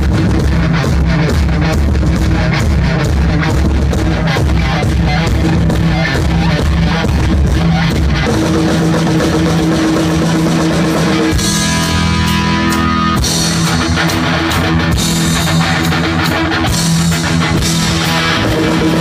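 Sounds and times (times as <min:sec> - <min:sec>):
distorted electric guitar: 0:00.0 - 0:19.0
heavy metal band playing: 0:00.0 - 0:19.0.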